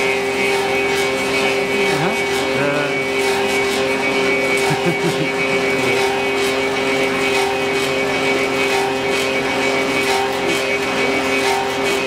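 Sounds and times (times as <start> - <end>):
lathe motor hum: 0.0 - 12.0.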